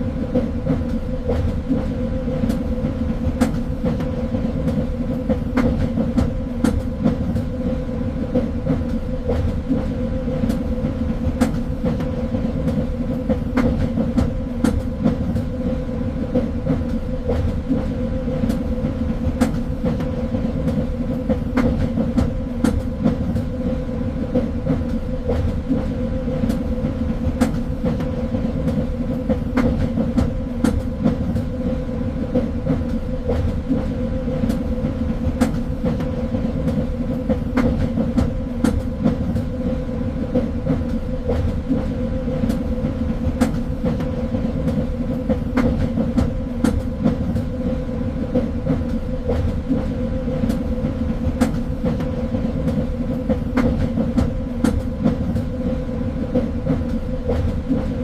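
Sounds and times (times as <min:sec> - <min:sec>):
train rumbling along track: 0:00.0 - 0:58.0.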